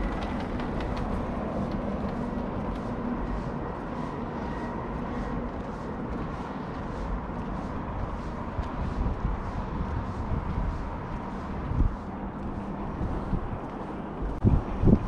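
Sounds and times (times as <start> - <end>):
footsteps on footbridge: 0.0 - 15.0
low rumble of outdoor noise: 0.0 - 15.0.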